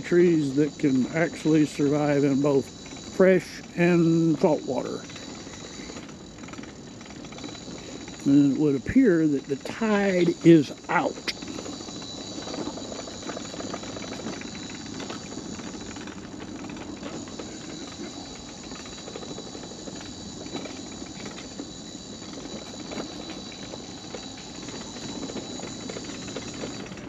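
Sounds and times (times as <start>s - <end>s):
scooter wheels rolling over boardwalk: 0.0s - 27.0s.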